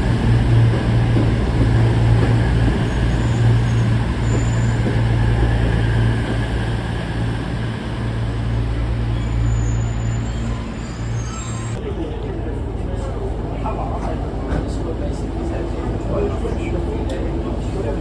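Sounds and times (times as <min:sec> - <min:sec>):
diesel train engine humming: 0:00.0 - 0:18.0.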